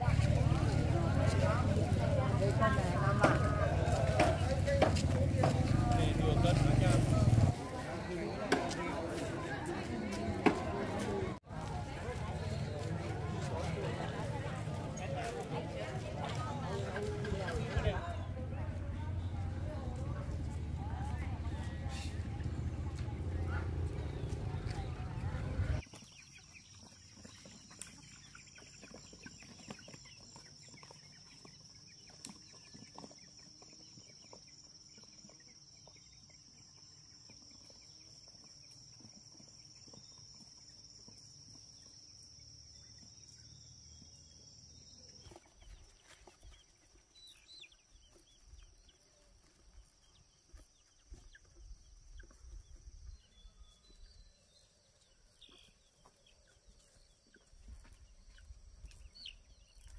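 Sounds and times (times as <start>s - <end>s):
chickens clucking: 0.0s - 54.0s, 54.6s - 59.9s.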